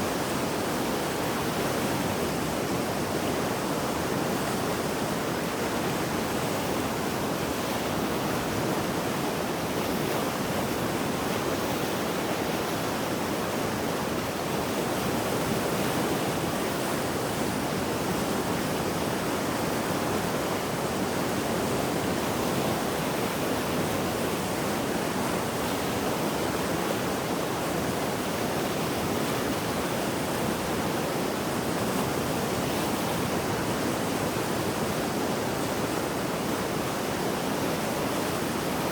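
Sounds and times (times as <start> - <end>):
river rushing roar: 0.0 - 38.9.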